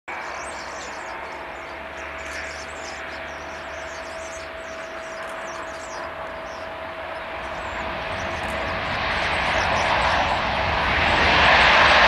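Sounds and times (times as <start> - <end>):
jet engines roaring with whine: 0.1 - 12.0.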